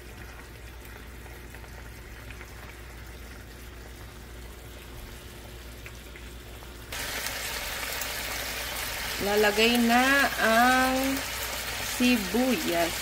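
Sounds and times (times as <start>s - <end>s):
meat sizzling and bubbling in sauce: 0.0s - 13.0s.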